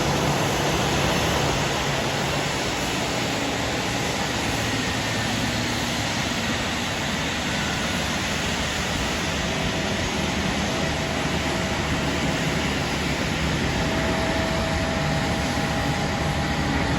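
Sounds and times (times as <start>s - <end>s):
faint jet whine: 0.0s - 16.9s
jet engines rushing: 0.0s - 16.9s.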